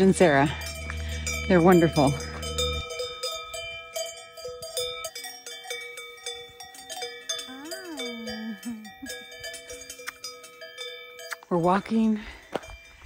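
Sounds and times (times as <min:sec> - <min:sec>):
cowbells clanking: 0:00.0 - 0:13.0.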